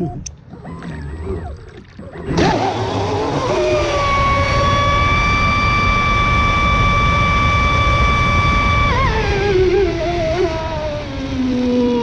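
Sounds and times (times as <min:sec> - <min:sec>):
electric motor whining: 0:02.2 - 0:12.0.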